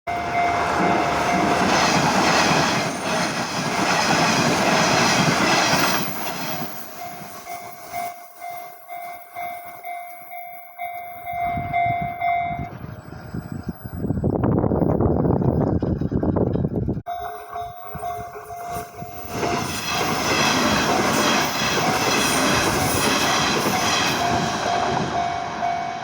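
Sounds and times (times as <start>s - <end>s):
electronic crossing warning bell: 0.1s - 3.4s, 5.7s - 14.9s, 17.1s - 26.0s
train wheel and rail noise: 0.1s - 26.0s.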